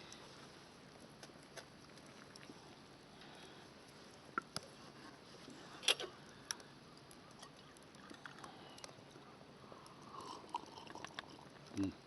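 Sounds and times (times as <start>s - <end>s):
faint steady hiss: 0.0s - 12.0s
wood fire crackling and popping: 0.0s - 12.0s.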